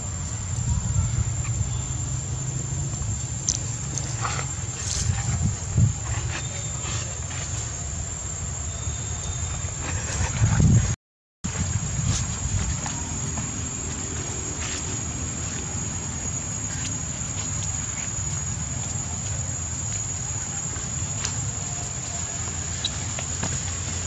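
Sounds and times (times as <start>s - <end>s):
insects droning: 0.0s - 10.9s, 11.5s - 24.0s.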